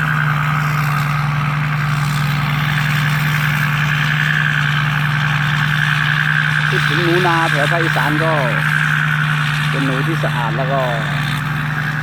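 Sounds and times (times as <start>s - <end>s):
diesel engine droning with whine: 0.0s - 12.0s.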